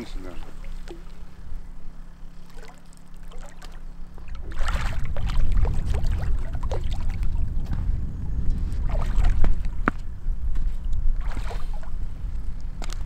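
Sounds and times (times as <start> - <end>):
low steady hum: 0.0 - 13.0
wind rumbling on microphone: 0.0 - 13.0.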